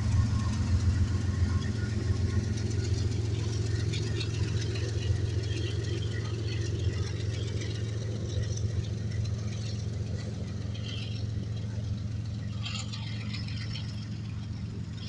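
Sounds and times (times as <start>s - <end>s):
diesel locomotives passing: 0.0s - 15.0s
train clicks and rattles: 0.0s - 15.0s.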